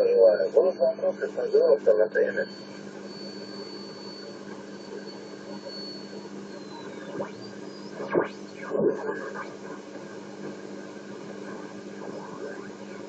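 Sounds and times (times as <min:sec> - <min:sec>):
radio static and hum: 0:00.0 - 0:13.0.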